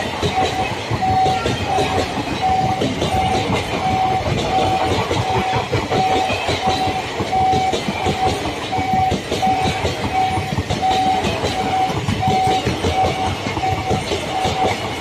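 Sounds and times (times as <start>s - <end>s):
train wheels clattering over rails: 0.0s - 15.0s
short repeating beep: 0.3s - 14.8s.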